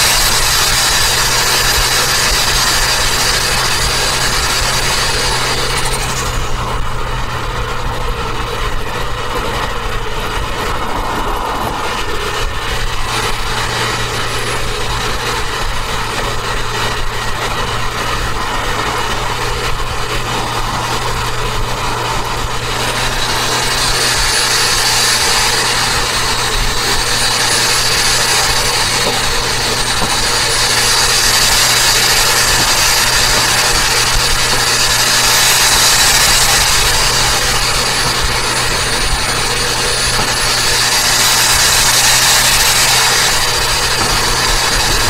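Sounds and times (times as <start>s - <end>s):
car engine hum: 0.0s - 45.0s
high wavering whine: 0.0s - 45.0s
road noise: 0.0s - 45.0s.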